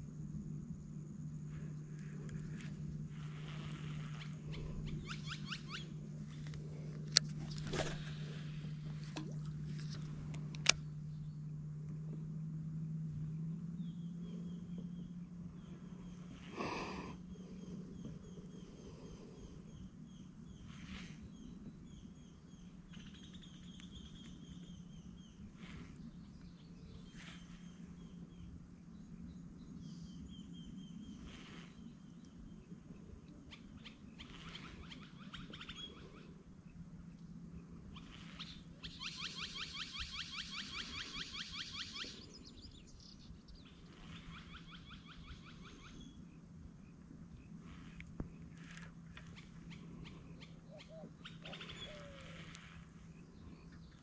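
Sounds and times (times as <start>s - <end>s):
low hum: 0.0s - 54.0s
birds chirping: 1.5s - 11.5s, 13.8s - 36.3s, 37.9s - 54.0s.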